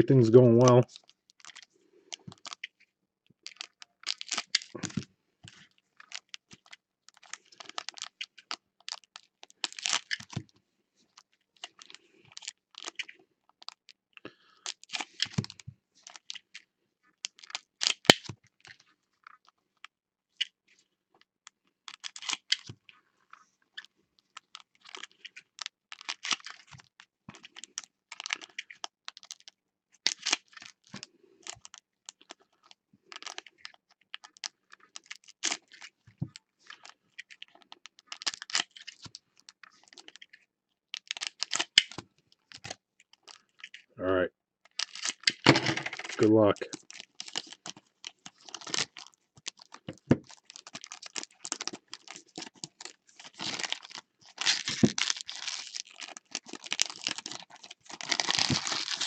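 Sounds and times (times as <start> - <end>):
cards and wrappers clicking and crinkling: 0.4 - 43.9, 44.7 - 59.0.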